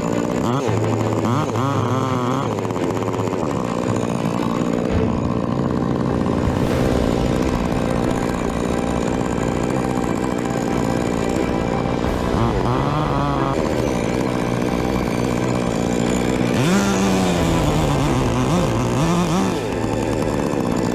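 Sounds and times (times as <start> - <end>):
chainsaw engine running: 0.0 - 20.9.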